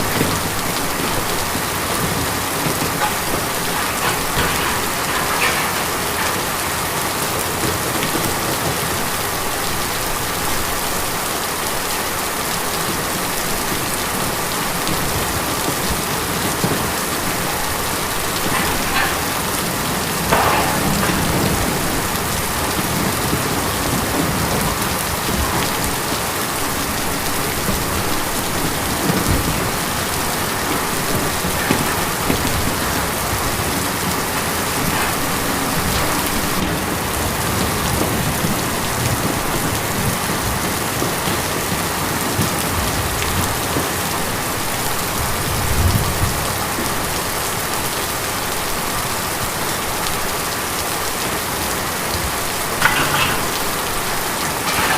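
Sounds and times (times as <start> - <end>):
rain on a tin roof: 0.0 - 54.9.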